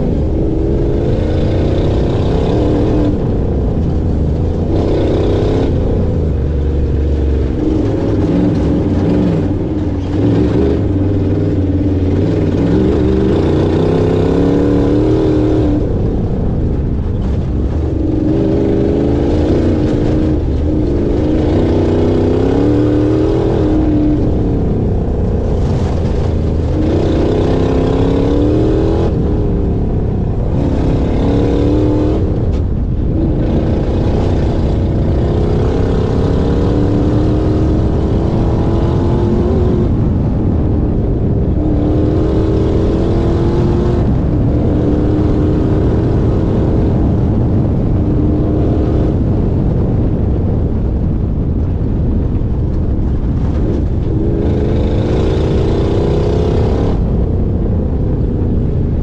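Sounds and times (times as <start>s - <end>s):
race car engine pulling hard: 0.0s - 59.0s
wind and dirt track rumble: 0.0s - 59.0s.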